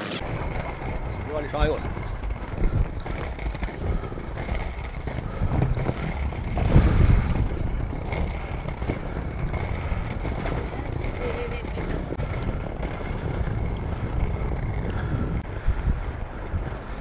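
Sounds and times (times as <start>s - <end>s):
inline skate wheels rolling: 0.0s - 17.0s
wind rumbling on microphone: 0.0s - 17.0s.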